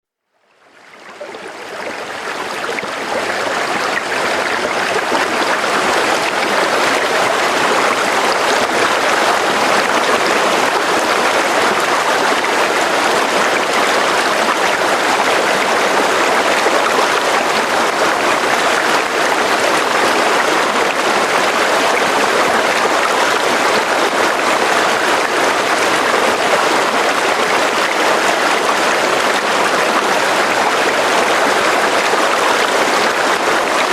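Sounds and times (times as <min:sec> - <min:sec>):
running water rushing: 0:00.4 - 0:33.9.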